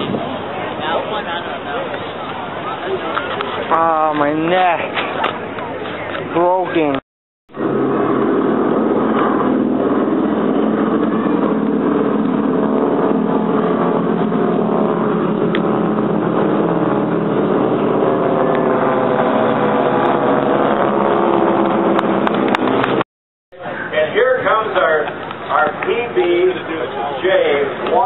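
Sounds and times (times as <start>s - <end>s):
propeller planes droning overhead: 0.0s - 23.0s, 23.6s - 28.0s.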